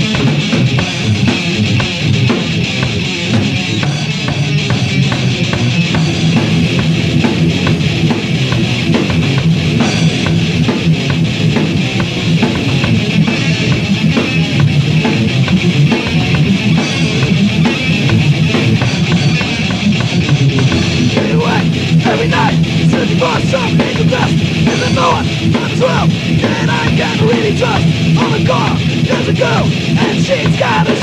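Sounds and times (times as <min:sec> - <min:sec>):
thrash metal band playing: 0:00.0 - 0:31.0.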